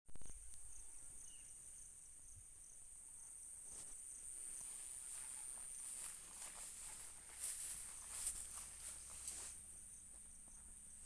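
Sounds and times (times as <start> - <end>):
crickets chirping faintly: 0.1 - 11.0.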